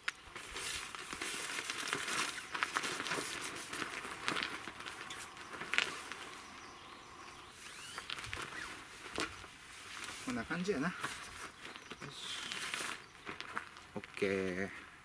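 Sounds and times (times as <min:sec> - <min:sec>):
tarp fabric rustling: 0:00.2 - 0:14.9.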